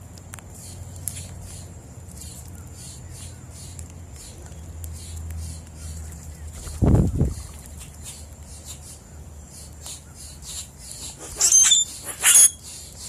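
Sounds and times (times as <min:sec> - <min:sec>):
birds chirping: 0:00.5 - 0:13.0.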